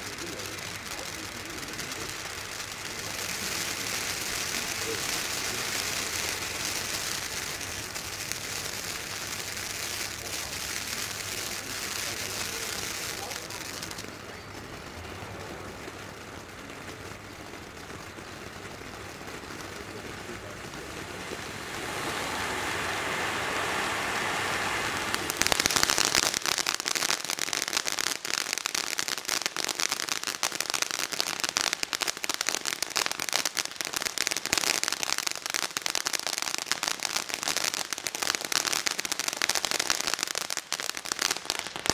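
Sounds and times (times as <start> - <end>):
firework crackling: 0.0 - 41.9
firework fountain hissing: 0.0 - 41.9.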